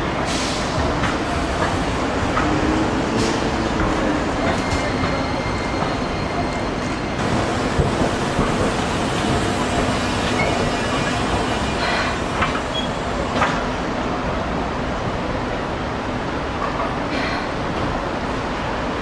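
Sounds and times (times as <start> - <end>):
streetcar wheels rolling on rail: 0.0 - 19.0.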